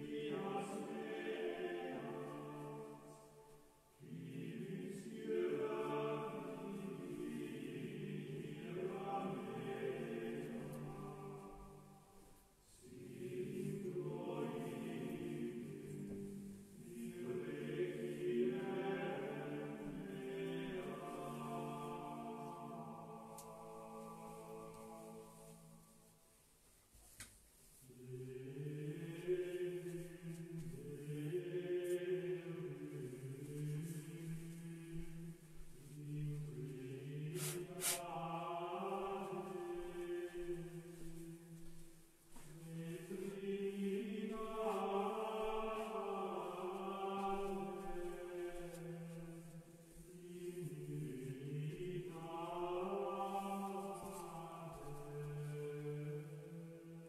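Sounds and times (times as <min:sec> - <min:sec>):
voices singing slow chant: 0:00.0 - 0:25.9, 0:27.8 - 0:57.0.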